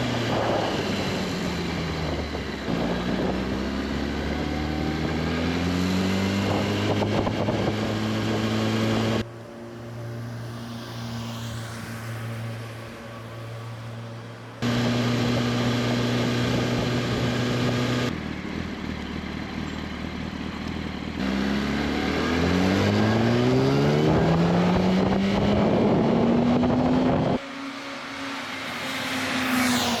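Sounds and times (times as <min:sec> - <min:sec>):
motorcycle engine flyby: 0:00.0 - 0:30.0.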